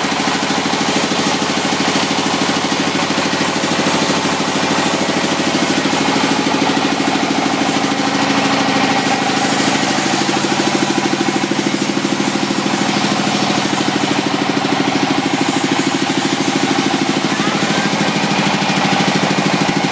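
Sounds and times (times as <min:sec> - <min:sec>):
engine pulsing steadily: 0:00.0 - 0:19.9.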